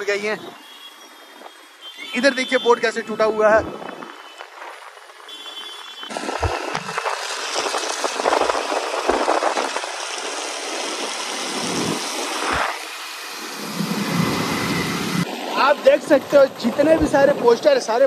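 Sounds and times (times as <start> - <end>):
vehicle driving on road: 0.0 - 18.0.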